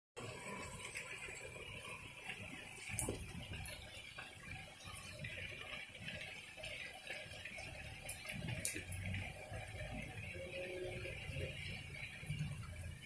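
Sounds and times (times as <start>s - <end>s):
heavy rain on pavement and leaves: 0.2s - 13.0s.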